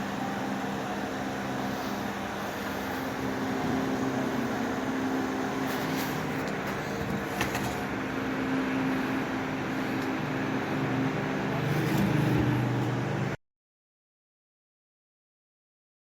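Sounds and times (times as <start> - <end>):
wood router humming: 0.0 - 13.3.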